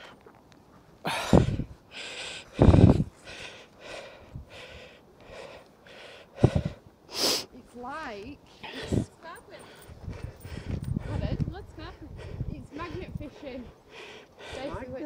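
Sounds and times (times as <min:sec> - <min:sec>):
person breathing hard: 0:01.0 - 0:07.5, 0:08.6 - 0:14.8.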